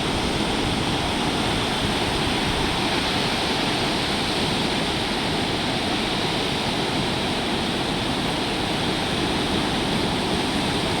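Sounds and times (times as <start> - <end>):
sea surf roaring: 0.0 - 11.0.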